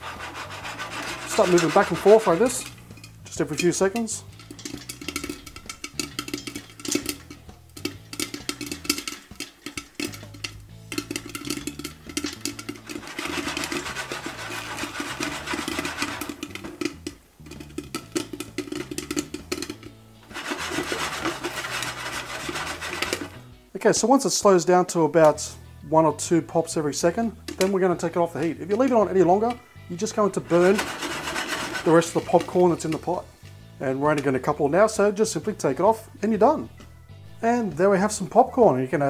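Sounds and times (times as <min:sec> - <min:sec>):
corn kernels popping: 0:00.0 - 0:24.4, 0:25.2 - 0:37.0
popcorn rattling in shaken pot: 0:00.0 - 0:25.5, 0:26.2 - 0:36.7.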